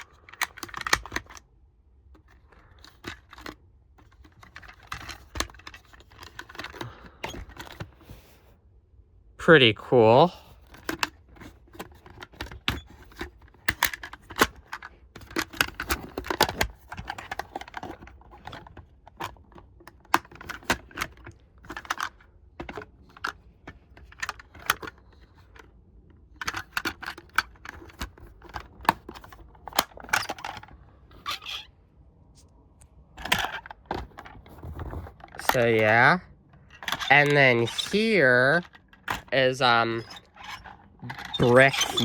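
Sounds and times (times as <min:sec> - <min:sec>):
toy truck parts clicking: 0:00.0 - 0:01.5, 0:02.1 - 0:08.2, 0:10.6 - 0:31.7, 0:33.2 - 0:42.0.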